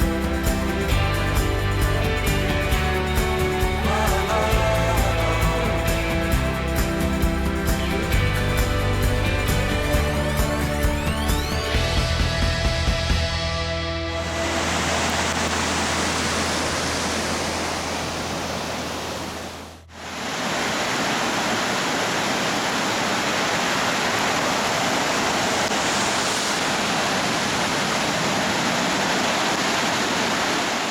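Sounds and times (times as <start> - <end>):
rushing water hiss: 0.0 - 11.7, 14.2 - 30.9.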